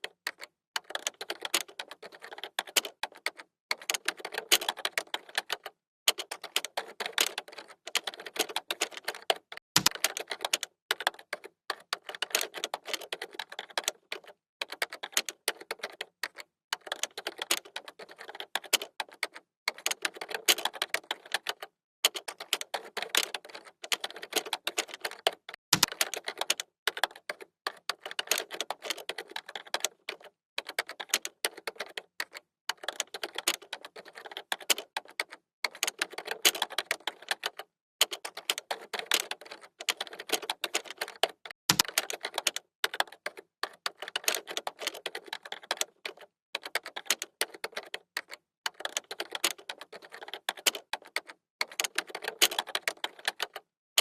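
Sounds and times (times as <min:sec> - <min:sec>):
computer keyboard typing: 0:00.0 - 0:53.7.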